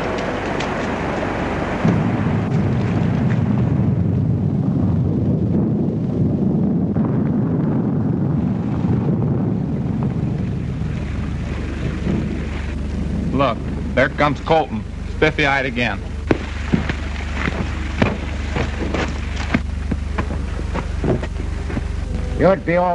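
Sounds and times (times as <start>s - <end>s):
thunder rumbling: 0.0s - 22.9s.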